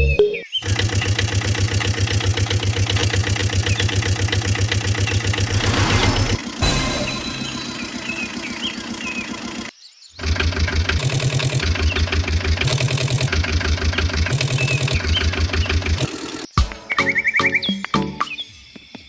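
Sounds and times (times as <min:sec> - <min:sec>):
truck engine running: 0:00.0 - 0:16.5.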